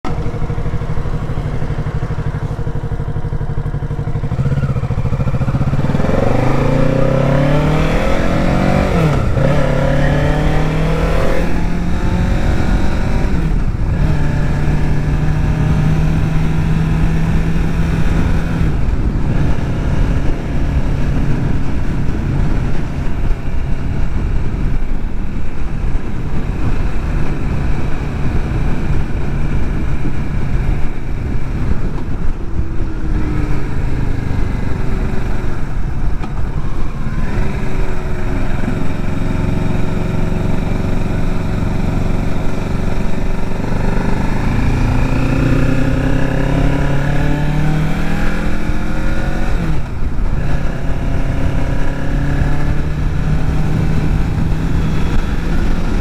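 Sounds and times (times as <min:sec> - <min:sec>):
motorcycle engine accelerating: 0:00.0 - 0:56.0
wind noise on microphone: 0:00.1 - 0:56.0.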